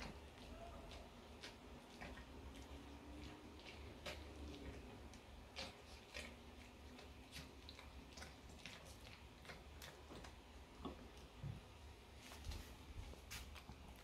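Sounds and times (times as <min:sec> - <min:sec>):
dog chewing mouth clicks: 0:00.0 - 0:11.4.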